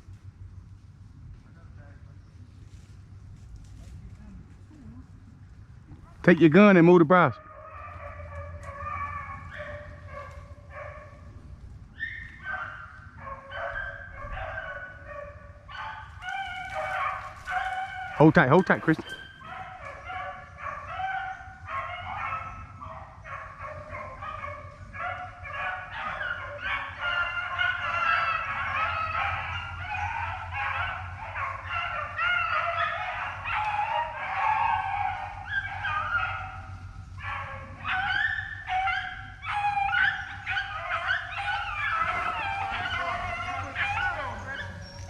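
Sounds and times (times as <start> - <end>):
dogs baying and yelping: 5.3 - 45.0.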